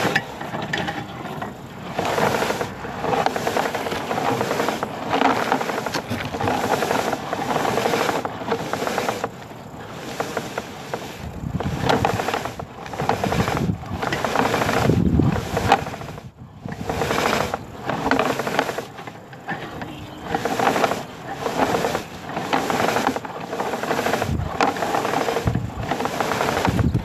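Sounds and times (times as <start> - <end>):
cable rasping and scraping in pipe: 0.0 - 27.0.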